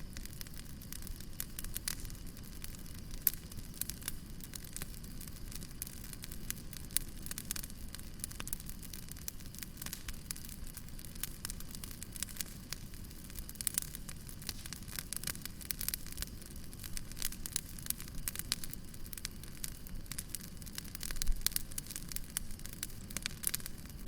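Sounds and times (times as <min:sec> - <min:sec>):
low rumble and hiss of fire: 0:00.0 - 0:24.0
wood fire crackling: 0:00.0 - 0:24.0.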